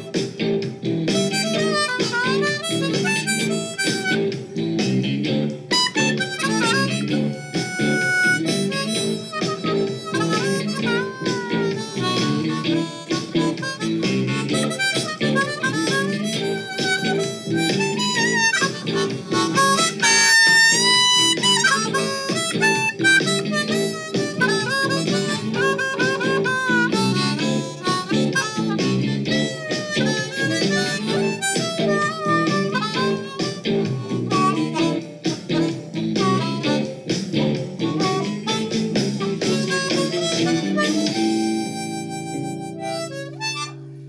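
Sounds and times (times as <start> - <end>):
blues guitar backing: 0.0 - 44.0
blues harmonica melody: 0.0 - 44.0.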